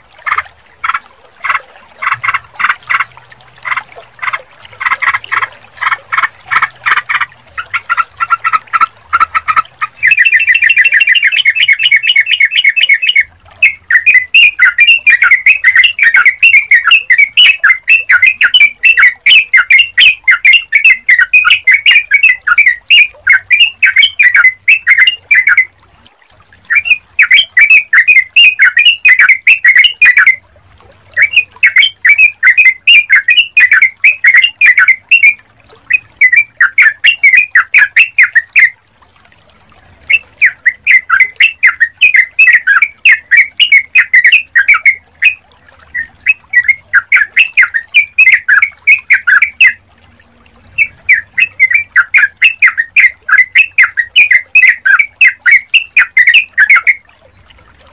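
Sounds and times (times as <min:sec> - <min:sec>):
bird singing chattering notes: 0:00.0 - 0:04.4, 0:05.0 - 0:25.7, 0:26.7 - 0:30.4, 0:31.2 - 0:38.7, 0:40.1 - 0:45.4, 0:46.0 - 0:49.8, 0:50.8 - 0:57.0.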